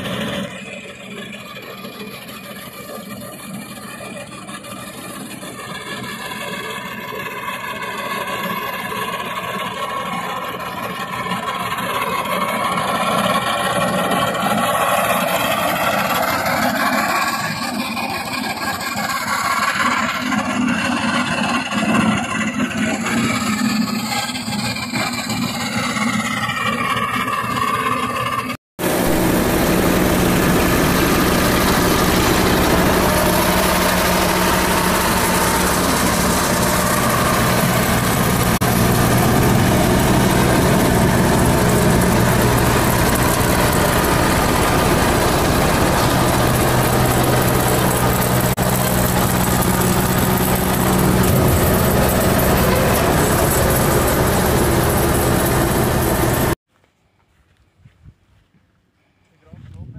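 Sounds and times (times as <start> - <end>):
ride-on mower engine running: 0.0 - 56.6.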